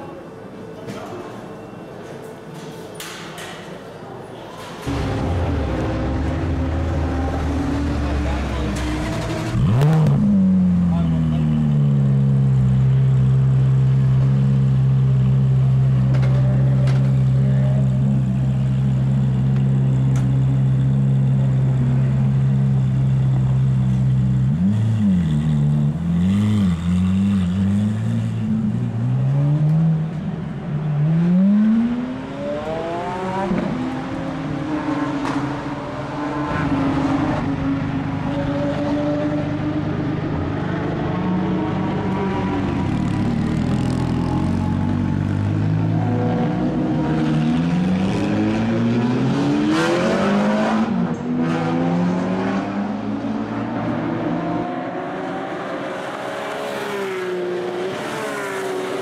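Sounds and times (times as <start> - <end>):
race car engine idling and revving: 4.8 - 59.0.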